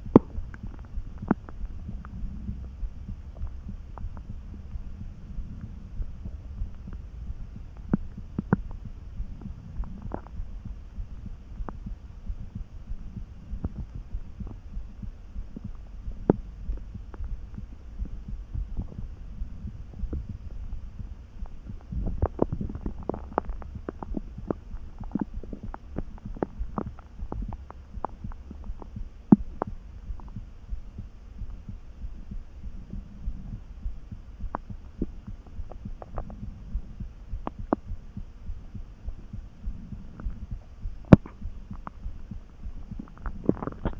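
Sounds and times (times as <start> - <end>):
stomach rumbling and gurgling: 0.0 - 43.9.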